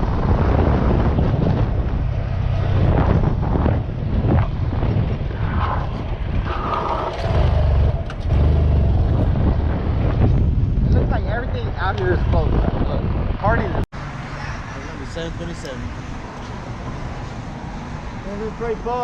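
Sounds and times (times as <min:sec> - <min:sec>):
wind rumbling on microphone: 0:00.0 - 0:18.2.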